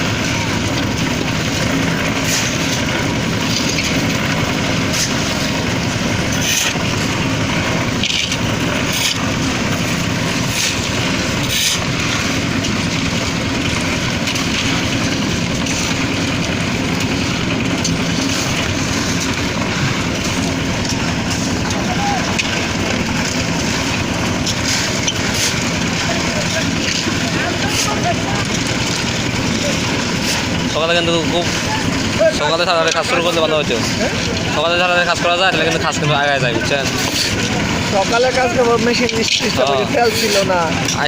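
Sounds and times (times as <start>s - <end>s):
concrete mixer engine running: 0.0s - 41.0s.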